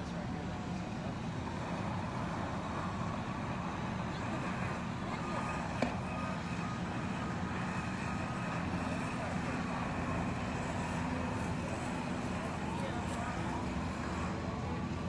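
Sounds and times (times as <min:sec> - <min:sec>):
truck engines idling: 0:00.0 - 0:15.0.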